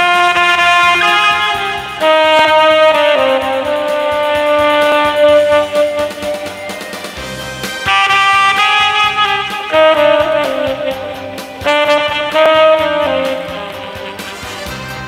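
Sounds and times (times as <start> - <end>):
accompaniment with steady beat: 0.0 - 15.0
tenor saxophone melody: 0.0 - 15.0.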